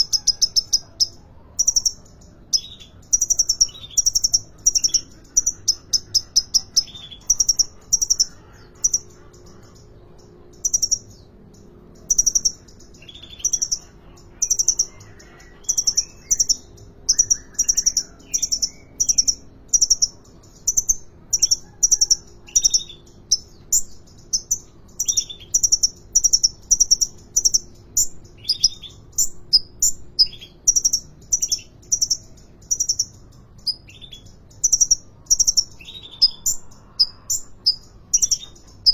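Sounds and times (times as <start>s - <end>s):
sunbird singing high chirps: 0.0s - 38.9s.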